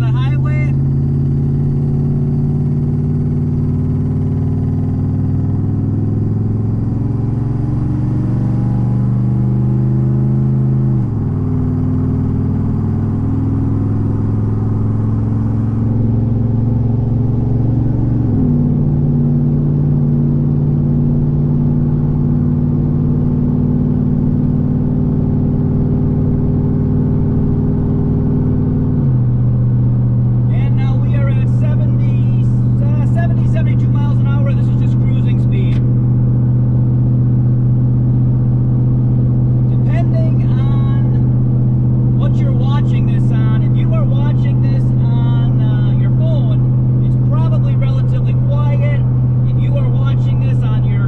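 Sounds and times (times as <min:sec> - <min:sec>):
truck engine exhaust accelerating: 0:00.0 - 0:51.0.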